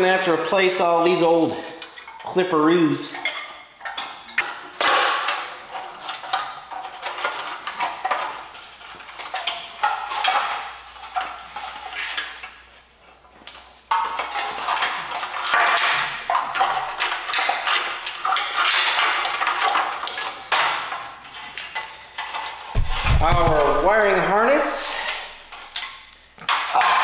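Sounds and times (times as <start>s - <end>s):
wires scraping along metal frame: 0.0s - 27.0s.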